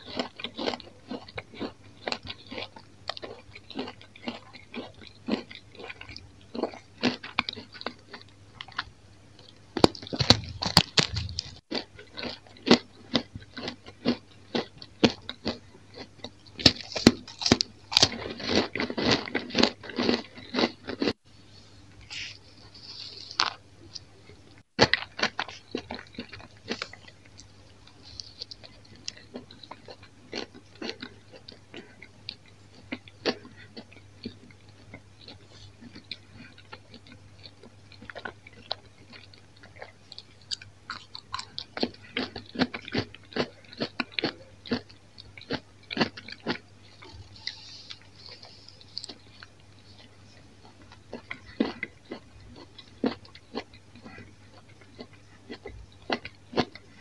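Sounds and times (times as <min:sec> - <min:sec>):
crunchy chewing: 0:00.0 - 0:21.2, 0:22.1 - 0:57.0.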